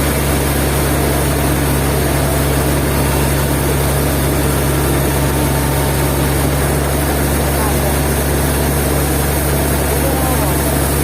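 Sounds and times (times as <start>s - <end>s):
machinery engine humming: 0.0s - 11.0s.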